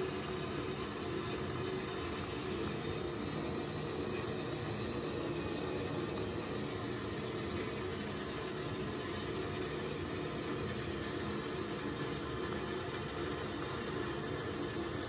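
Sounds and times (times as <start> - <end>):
blower fan whooshing hum: 0.0 - 15.0.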